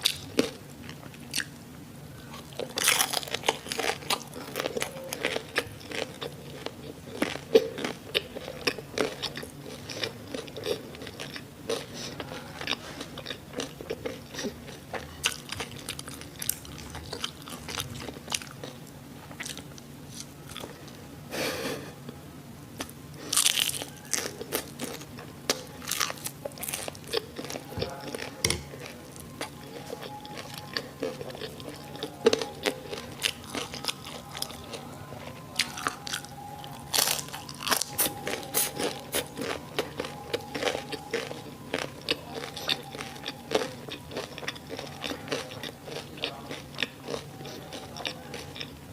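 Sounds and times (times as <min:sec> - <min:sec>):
chewing crispy food: 0:00.0 - 0:21.9, 0:22.8 - 0:48.9.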